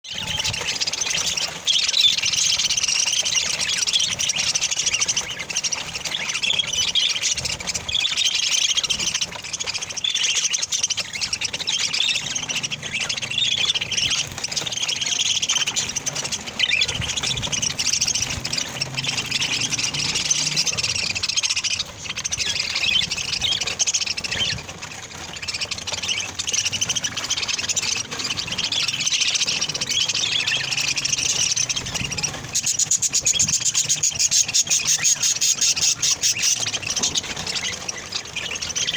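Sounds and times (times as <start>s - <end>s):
flock of parrots chattering: 0.0s - 38.9s.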